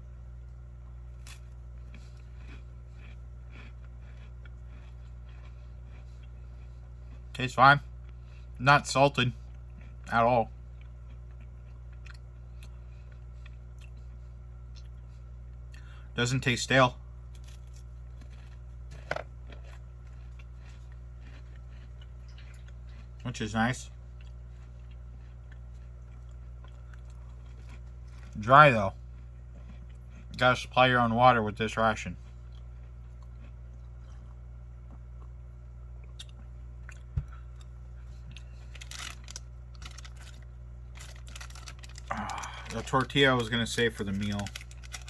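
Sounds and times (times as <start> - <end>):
low electrical hum: 0.0 - 45.0
chewing dry biscuit: 1.1 - 16.6, 17.3 - 30.9, 32.2 - 45.0.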